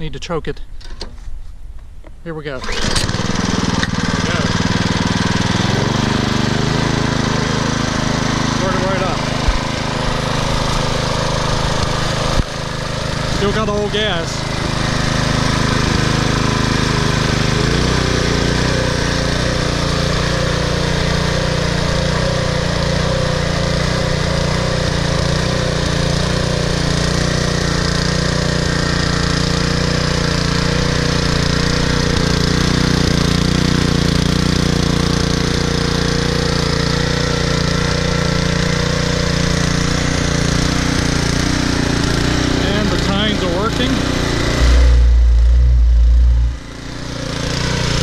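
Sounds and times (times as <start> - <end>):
tiller engine running: 2.4 - 48.0.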